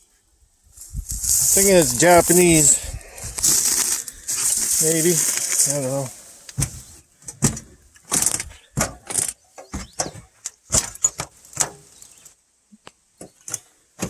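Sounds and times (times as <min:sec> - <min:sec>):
footsteps crunching over sticks: 0:00.7 - 0:12.3.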